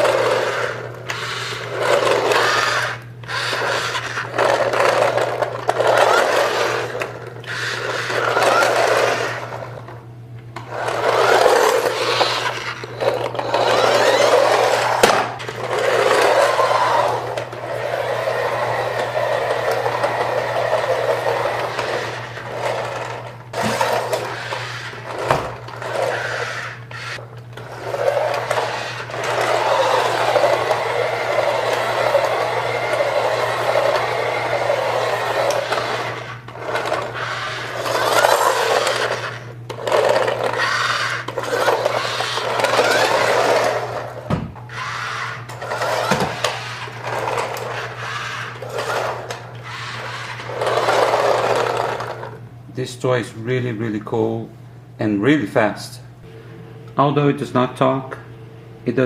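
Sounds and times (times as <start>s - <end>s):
toy electric motor whirring: 0.0s - 9.9s, 10.6s - 52.4s.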